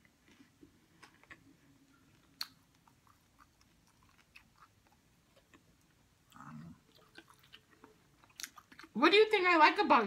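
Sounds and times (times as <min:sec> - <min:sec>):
people chewing food: 0:00.0 - 0:09.0.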